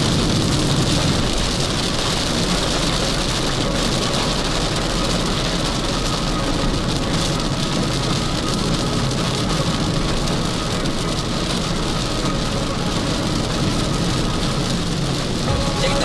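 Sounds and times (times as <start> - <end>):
rain hitting car: 0.0 - 16.0.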